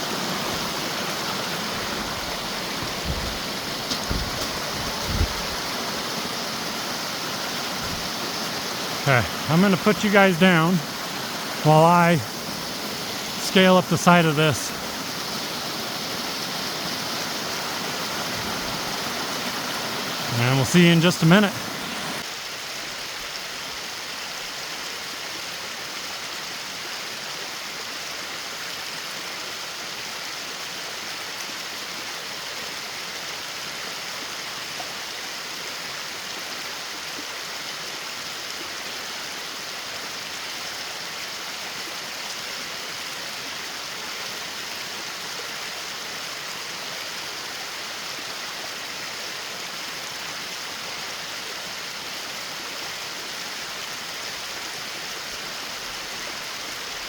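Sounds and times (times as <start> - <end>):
creek and waterfall rushing: 0.0 - 57.0.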